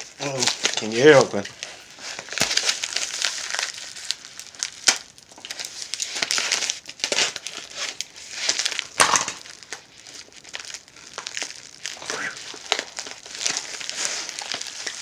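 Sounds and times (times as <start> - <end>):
packaging crinkling and tearing: 0.0 - 15.0.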